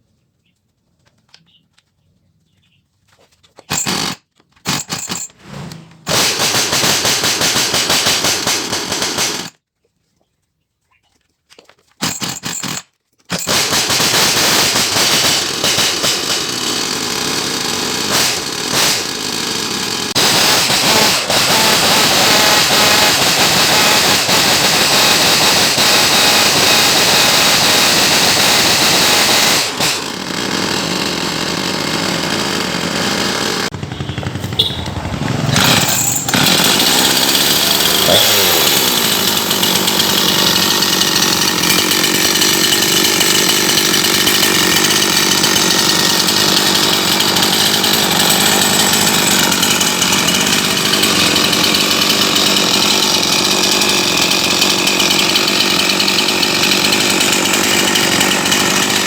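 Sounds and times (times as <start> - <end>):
chainsaw engine running: 3.7 - 9.6, 12.0 - 59.0.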